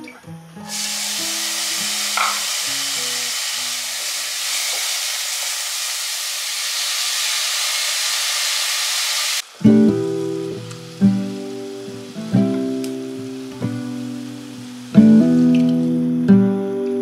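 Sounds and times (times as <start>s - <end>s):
food sizzling in a pan: 0.6s - 16.1s.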